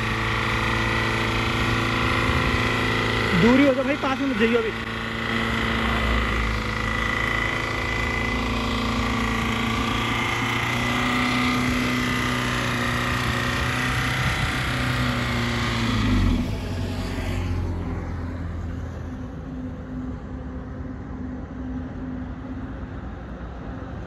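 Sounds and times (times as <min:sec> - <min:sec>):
car engine running: 0:00.0 - 0:23.8.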